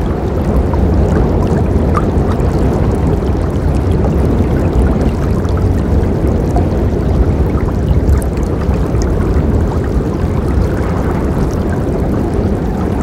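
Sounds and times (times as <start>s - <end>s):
faint water splashes: 0.0s - 13.0s
river water flowing and gurgling: 0.0s - 13.0s.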